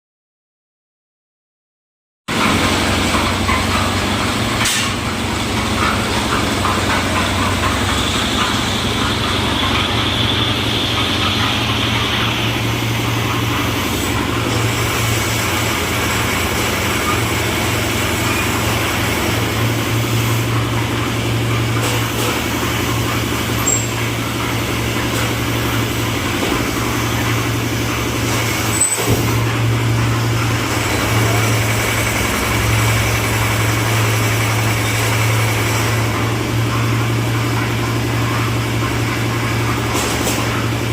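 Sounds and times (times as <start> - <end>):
concrete mixer engine drone: 2.3 - 40.9.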